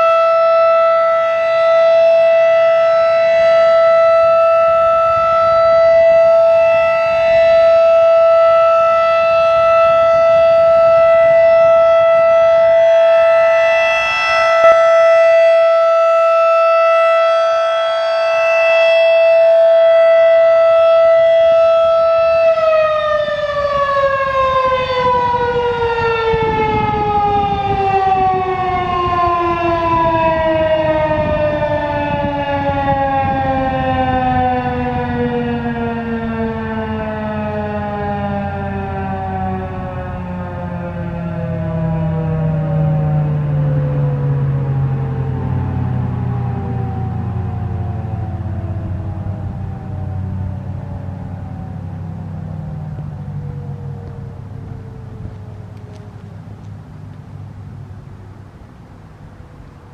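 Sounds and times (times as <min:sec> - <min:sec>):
outdoor warning siren: 0:00.0 - 0:59.9.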